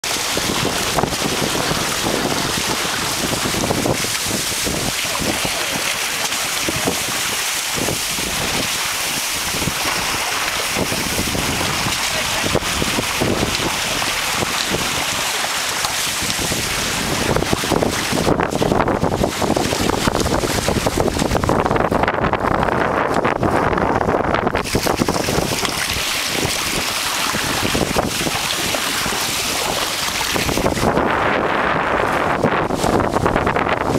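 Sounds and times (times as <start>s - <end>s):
water rushing along hulls: 0.0s - 33.9s
wind noise on microphone: 0.0s - 33.9s.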